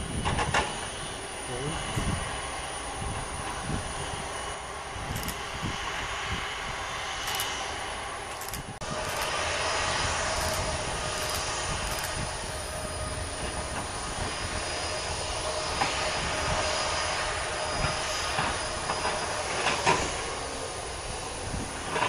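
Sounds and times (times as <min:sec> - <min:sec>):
faint engine whine: 0:00.0 - 0:22.0
jet engines running: 0:00.0 - 0:22.0.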